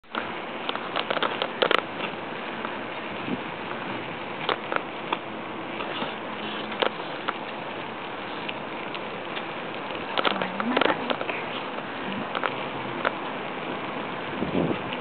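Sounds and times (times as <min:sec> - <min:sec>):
rushing noise of bicycle ride: 0:00.0 - 0:15.0.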